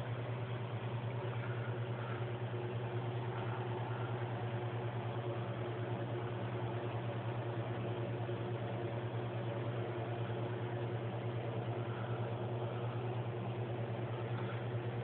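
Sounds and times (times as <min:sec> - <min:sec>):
steady low hum with hiss: 0:00.0 - 0:15.0.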